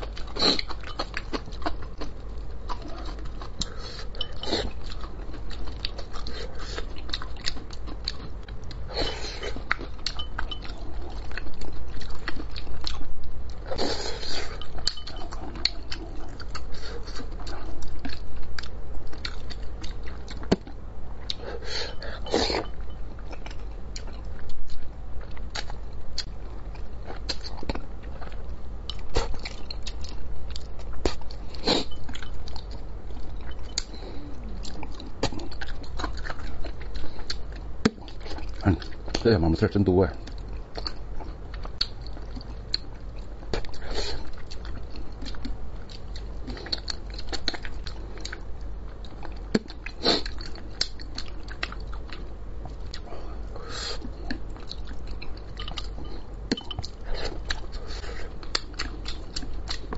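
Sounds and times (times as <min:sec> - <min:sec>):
man chewing with wet mouth sounds: 0:00.0 - 0:59.9.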